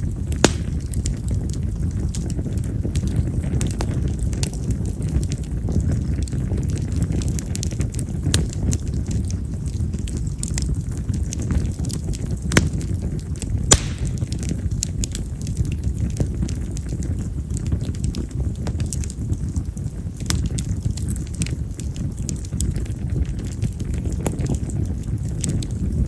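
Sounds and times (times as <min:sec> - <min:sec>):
campfire crackling and popping: 0:00.0 - 0:26.0
low rush of flame: 0:00.0 - 0:26.0.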